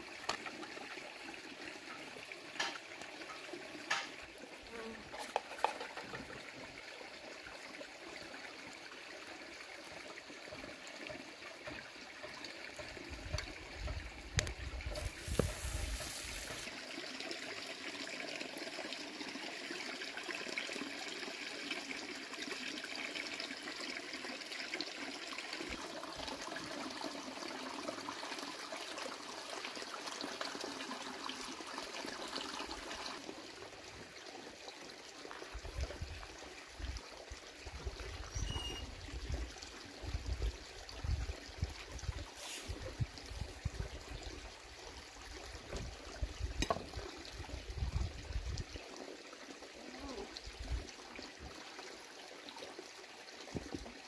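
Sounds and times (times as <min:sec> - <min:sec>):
trickle of running water: 0:00.0 - 0:54.0.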